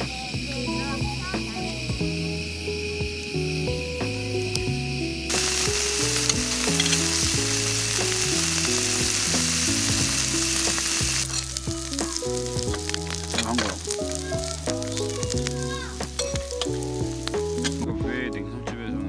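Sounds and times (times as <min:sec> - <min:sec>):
food sizzling in a pan: 0:00.0 - 0:17.9
soft background music: 0:00.0 - 0:19.0.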